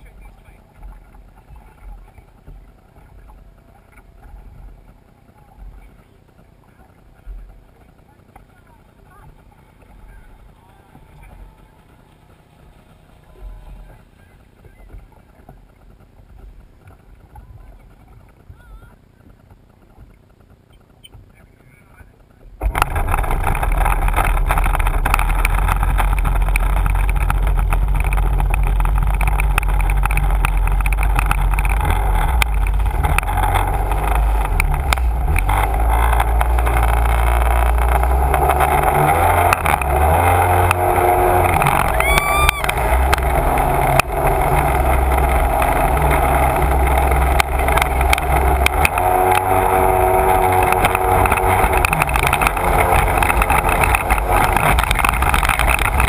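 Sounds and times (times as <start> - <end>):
watercraft engine running: 0.0 - 56.0.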